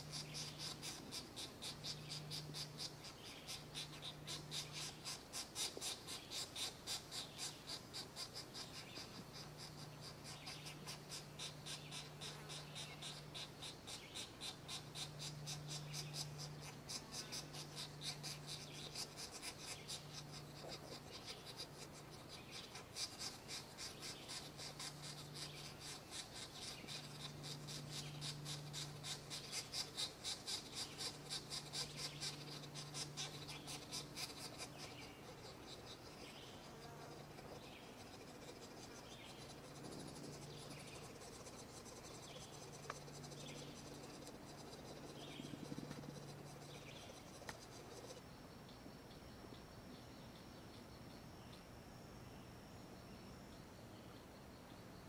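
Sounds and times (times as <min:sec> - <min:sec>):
woodpecker nestlings begging calls: 0:00.0 - 0:51.4.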